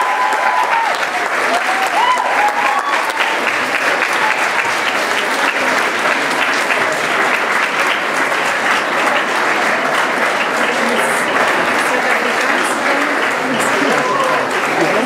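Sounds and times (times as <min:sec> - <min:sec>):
audience applauding: 0:00.0 - 0:15.0
audience cheering: 0:00.0 - 0:15.0.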